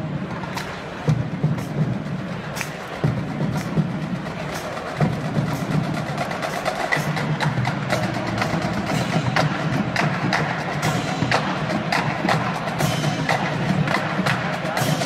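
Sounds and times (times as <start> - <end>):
tenor and bass drums: 0.0 - 15.0.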